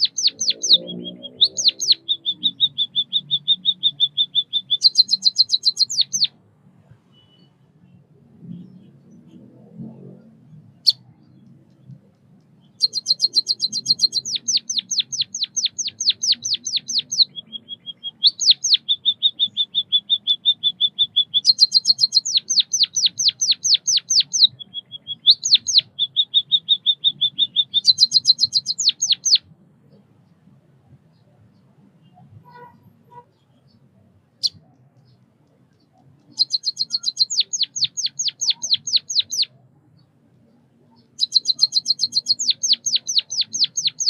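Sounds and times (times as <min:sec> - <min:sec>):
bird singing rapid chirps: 0:00.0 - 0:06.4, 0:08.3 - 0:30.4, 0:31.0 - 0:44.0.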